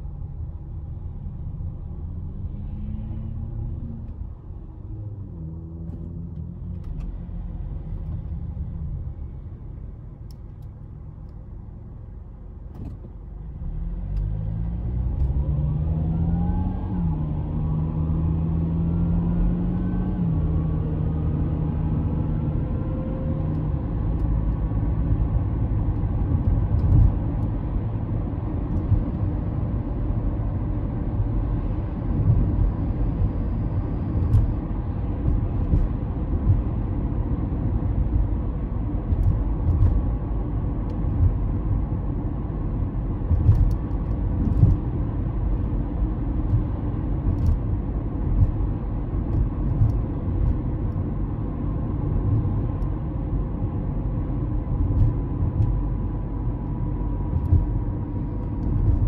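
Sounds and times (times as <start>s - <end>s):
car engine and road rumble: 0.0s - 59.0s
engine hum: 0.0s - 59.0s.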